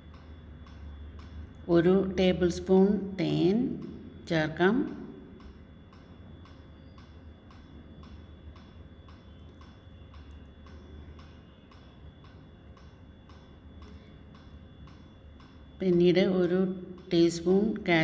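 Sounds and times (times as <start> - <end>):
clock ticking: 0.0 - 18.0
faint low hum: 0.0 - 18.0.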